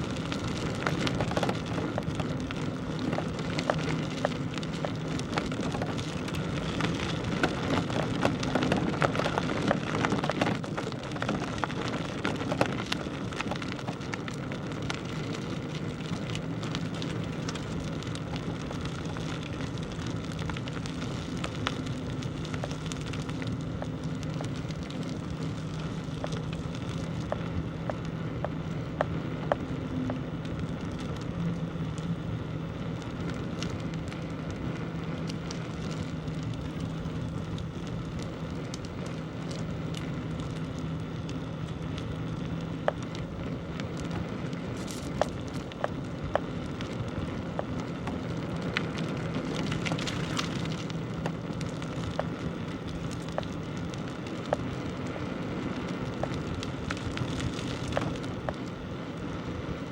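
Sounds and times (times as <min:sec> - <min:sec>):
bicycle tyres on rough road: 0:00.0 - 0:59.9
low even hum: 0:00.0 - 0:59.9
sharp clicks and ticks: 0:00.1 - 0:32.2, 0:32.8 - 0:58.8.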